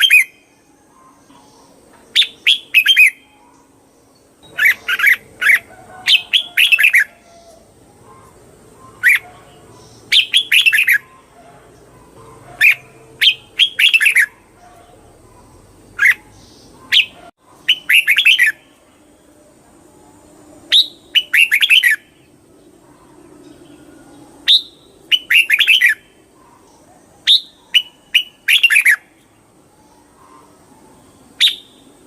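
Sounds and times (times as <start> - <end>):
bulbul singing: 0.0 - 19.4, 20.0 - 32.0.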